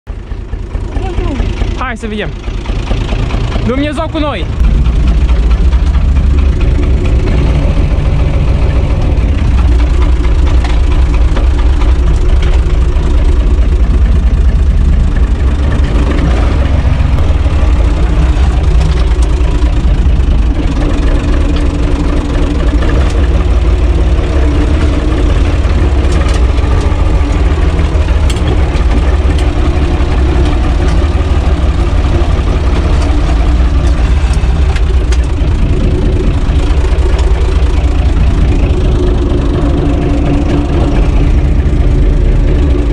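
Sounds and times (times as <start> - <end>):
diesel tractor engine idling: 0.1 - 42.9.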